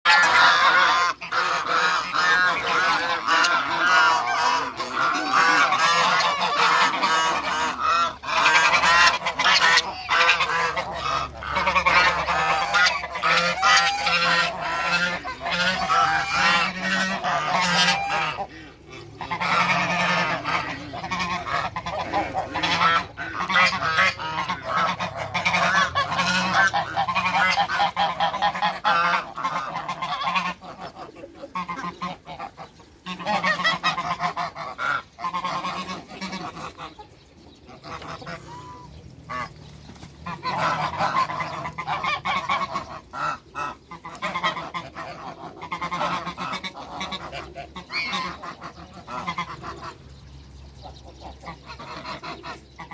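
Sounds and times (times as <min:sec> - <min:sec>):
geese honking: 0:00.0 - 0:52.9.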